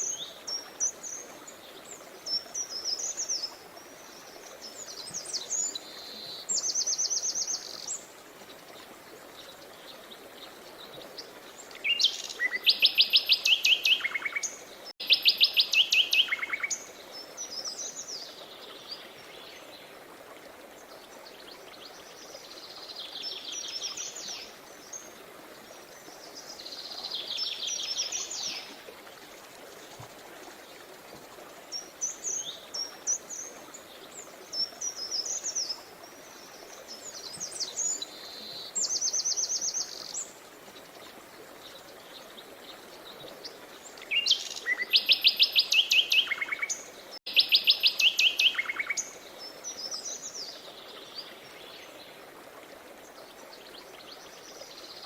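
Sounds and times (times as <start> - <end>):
songbirds singing: 0.0 - 20.0, 20.8 - 55.0
flowing river water: 0.0 - 55.0.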